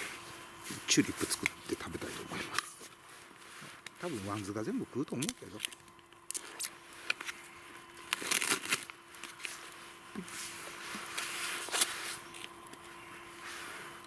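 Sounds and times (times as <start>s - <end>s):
cling film crinkling and tearing: 1.2s - 10.0s, 11.0s - 13.7s.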